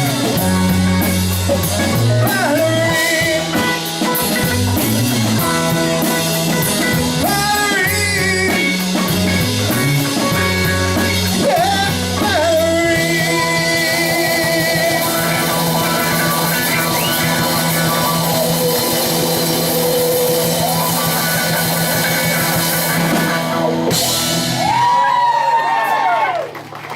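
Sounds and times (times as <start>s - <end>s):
person singing: 0.0s - 9.4s, 10.1s - 23.2s
rock band playing: 0.0s - 26.9s.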